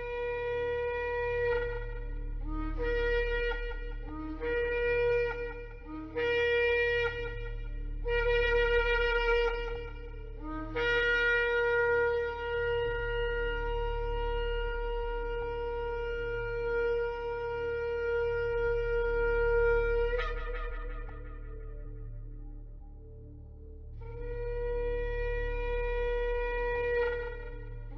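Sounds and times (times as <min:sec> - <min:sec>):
shofar blowing: 0:00.0 - 0:22.6, 0:24.0 - 0:27.9.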